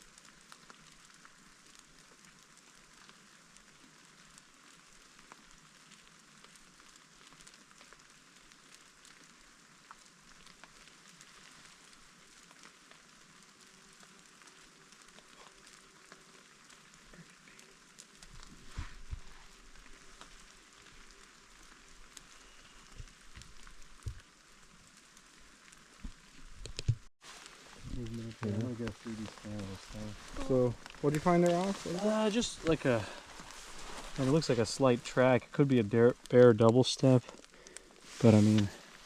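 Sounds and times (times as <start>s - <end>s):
light rain hissing: 0.0s - 39.0s
raindrop ticks: 0.0s - 39.0s.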